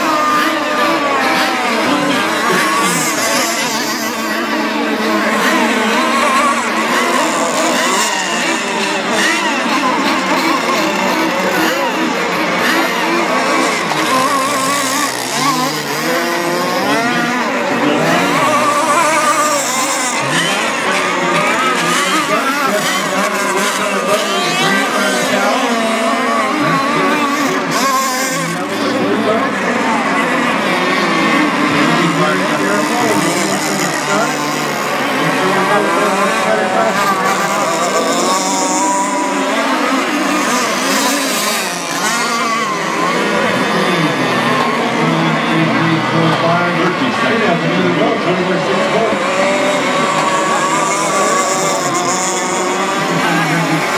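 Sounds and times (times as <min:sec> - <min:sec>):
racing boat engines at high revs: 0:00.0 - 0:53.9.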